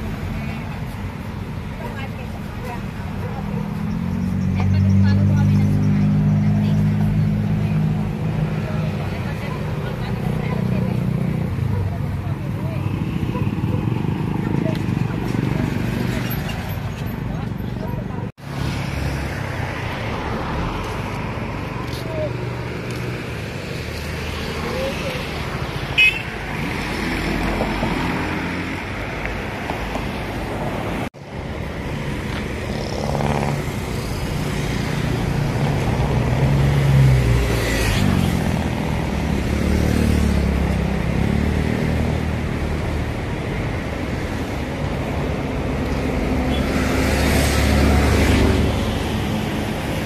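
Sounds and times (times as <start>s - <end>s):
vehicle engines passing: 0.0s - 50.0s.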